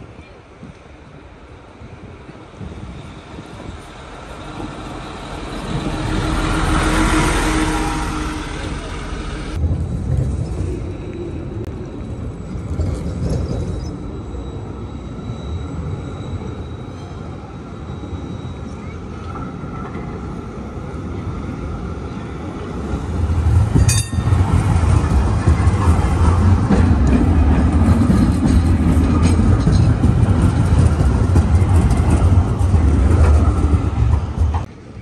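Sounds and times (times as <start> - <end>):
tram wheels and motors: 0.0 - 35.0
trams rumbling on track: 0.0 - 35.0.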